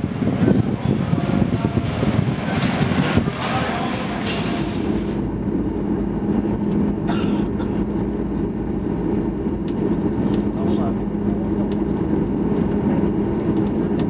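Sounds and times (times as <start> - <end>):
airplane cabin hum: 0.0 - 14.0.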